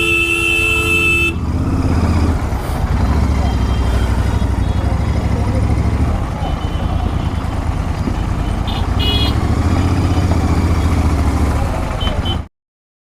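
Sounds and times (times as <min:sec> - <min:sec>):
motorcycle engine at low revs: 0:01.3 - 0:12.5.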